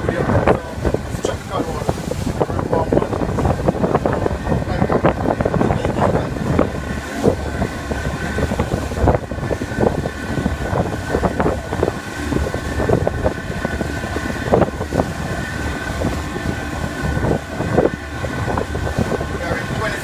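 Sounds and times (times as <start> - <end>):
boat engine humming: 0.0 - 20.0
water bumping against hull: 0.0 - 20.0
wind noise on microphone: 0.0 - 20.0.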